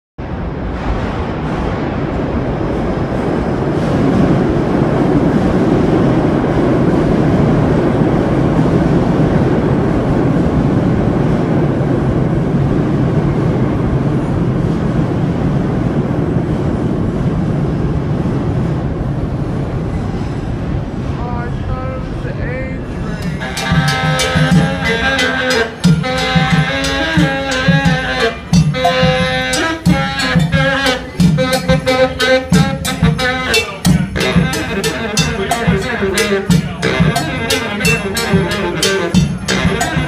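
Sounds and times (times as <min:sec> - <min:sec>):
subway train rumbling: 0:00.2 - 0:40.0.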